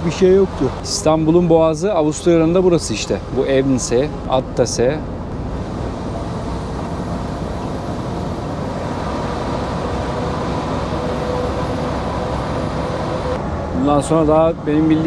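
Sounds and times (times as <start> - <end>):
truck engine and tyre noise: 0.0 - 15.0.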